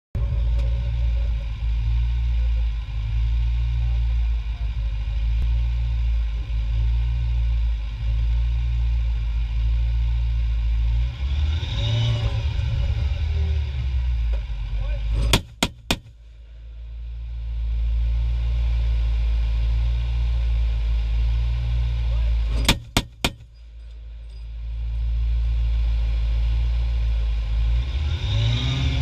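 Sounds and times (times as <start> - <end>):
diesel engine rumbling: 0.1 - 29.0.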